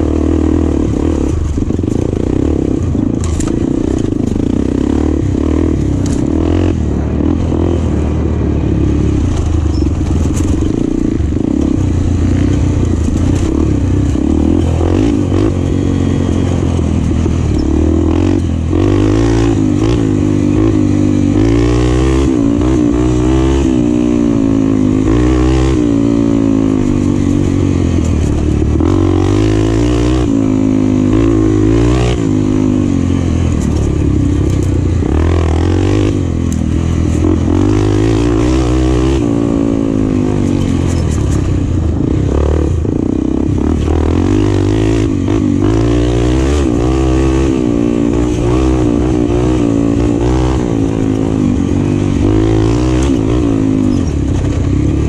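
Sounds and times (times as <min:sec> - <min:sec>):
motorcycle engine revving: 0:00.0 - 0:55.0
knocks and clatter from motorcycle: 0:00.6 - 0:07.5, 0:09.1 - 0:21.6, 0:23.8 - 0:55.0.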